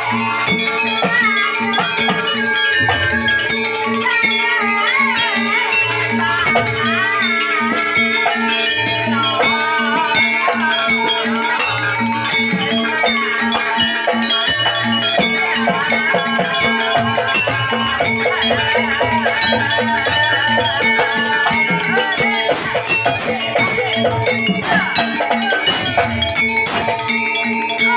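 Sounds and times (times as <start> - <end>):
repeating percussion beat: 0.0 - 27.9.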